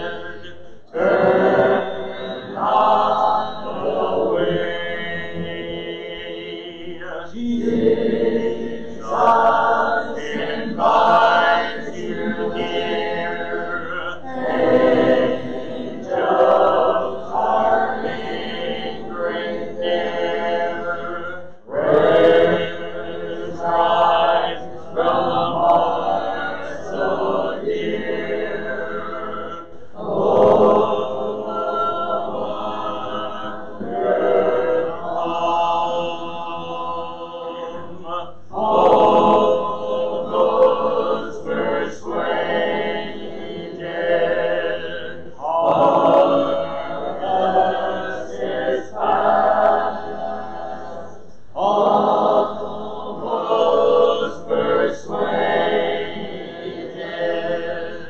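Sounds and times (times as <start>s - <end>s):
man leading hymn singing: 0.0s - 58.0s.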